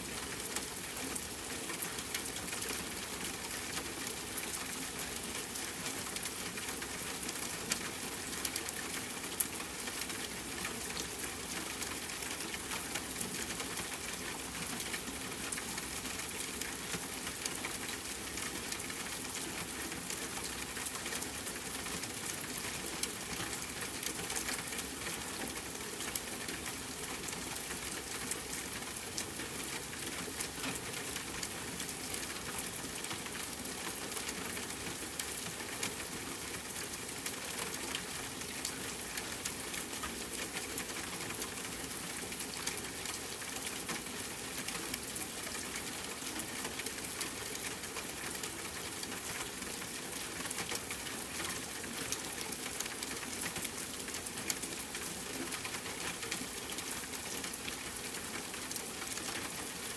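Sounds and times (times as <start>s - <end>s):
steady rain with drop ticks: 0.0s - 59.9s.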